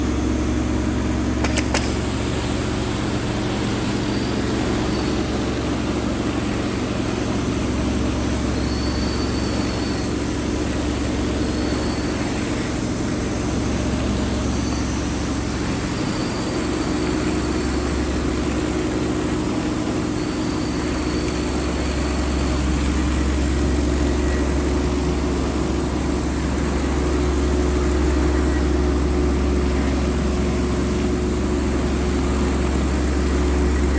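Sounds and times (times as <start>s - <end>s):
machine engine droning: 0.0s - 33.9s.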